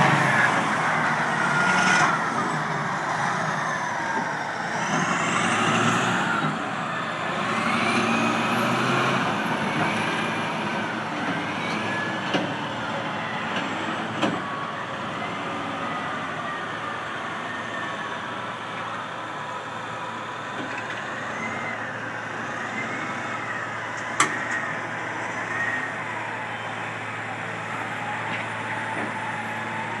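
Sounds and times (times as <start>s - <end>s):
engine whine rising and falling: 0.0s - 18.4s, 20.6s - 30.0s
heavy diesel machines working: 0.0s - 30.0s.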